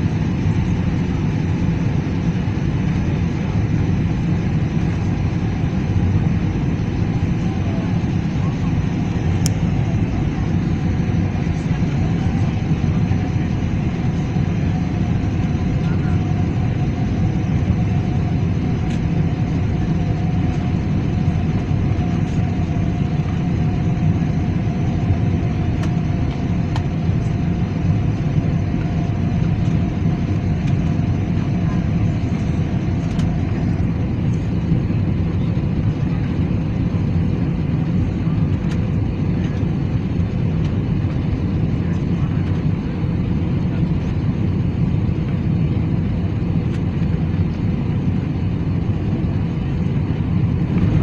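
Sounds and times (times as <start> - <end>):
faint steady whine: 0.0 - 51.0
jet engine and airflow noise: 0.0 - 51.0.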